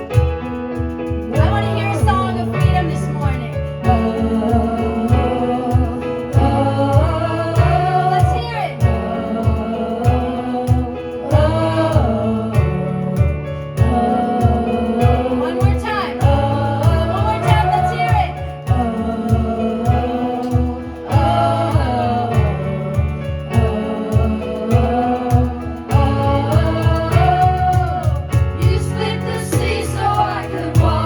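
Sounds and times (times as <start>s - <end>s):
drum and bass beat: 0.0s - 31.0s
voices singing: 0.0s - 31.0s.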